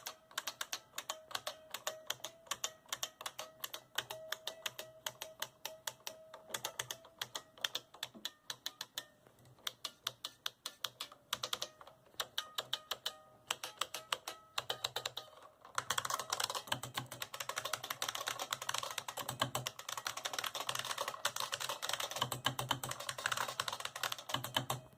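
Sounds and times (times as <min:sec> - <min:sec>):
keyboard typing: 0:00.0 - 0:24.9.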